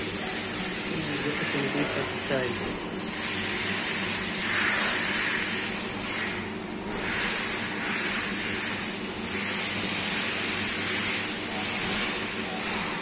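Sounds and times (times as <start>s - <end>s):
coolant hissing and splashing: 0.0s - 13.0s
machine low hum: 0.0s - 13.0s.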